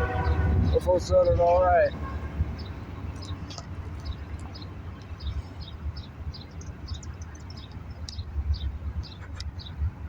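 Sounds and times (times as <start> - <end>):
small birds chirping: 0.2 - 9.9.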